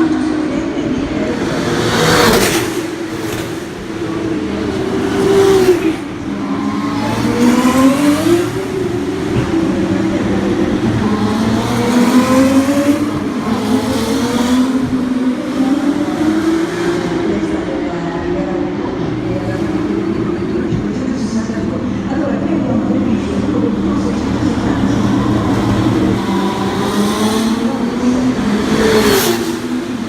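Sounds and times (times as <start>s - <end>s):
racing car engines: 0.0s - 30.0s.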